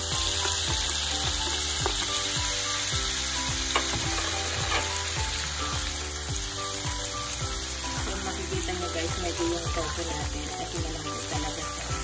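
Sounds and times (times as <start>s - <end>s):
soft background music: 0.0s - 12.0s
tofu sizzling in hot oil: 0.0s - 12.0s.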